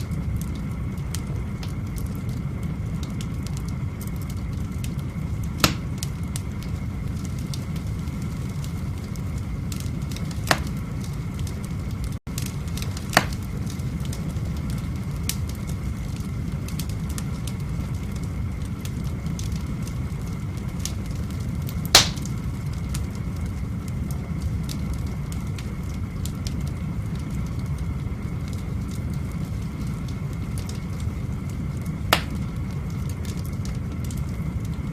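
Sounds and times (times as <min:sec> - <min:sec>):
crackles of burning logs: 0:00.0 - 0:34.9
fire rumbling in fireplace: 0:00.0 - 0:34.9
sharp pops of burning logs: 0:03.0 - 0:34.9.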